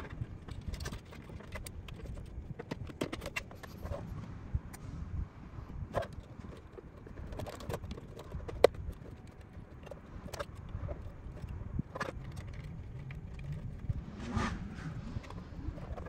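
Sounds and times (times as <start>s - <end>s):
plastic parts clicking and knocking: 0.0s - 4.0s, 5.9s - 14.0s, 15.2s - 16.0s
soft handling noise: 0.0s - 4.8s, 5.7s - 14.1s, 15.0s - 16.0s.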